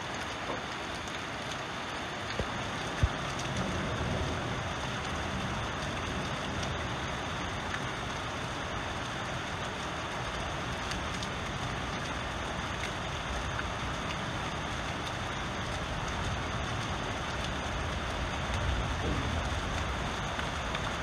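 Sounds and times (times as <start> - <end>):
heavy rain pouring: 0.0 - 21.0
water splashing down rain chain: 0.0 - 21.0.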